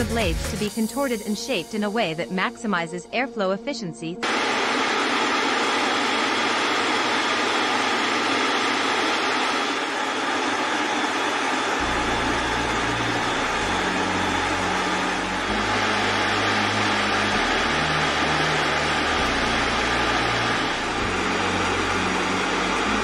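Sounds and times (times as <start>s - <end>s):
jet engine roar: 4.2s - 23.0s.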